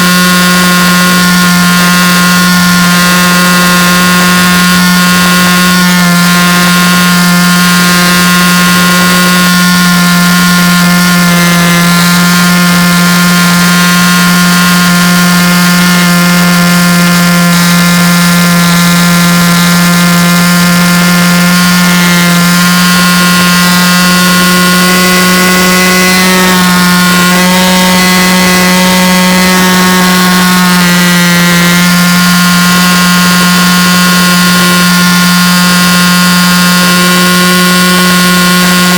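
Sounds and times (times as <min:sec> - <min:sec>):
loud low hum with tones: 0:00.0 - 0:38.9.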